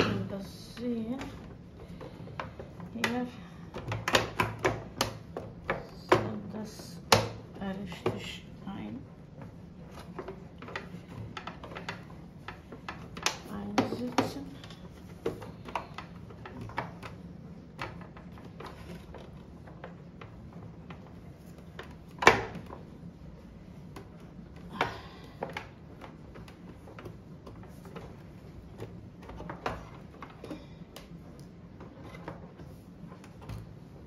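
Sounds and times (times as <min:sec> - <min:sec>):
plastic clicks and knocks: 0:00.0 - 0:08.4, 0:09.3 - 0:22.9, 0:23.8 - 0:33.9.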